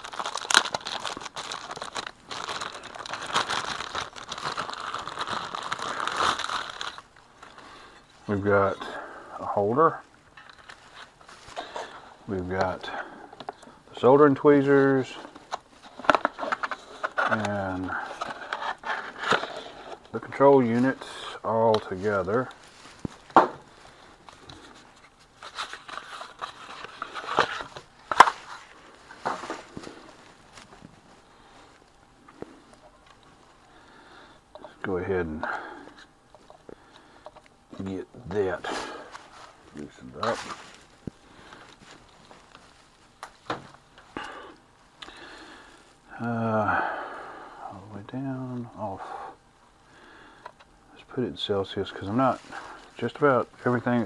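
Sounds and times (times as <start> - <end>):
packaging crinkling and rustling: 0.0 - 9.0, 9.8 - 33.9, 35.8 - 46.0, 51.5 - 54.0.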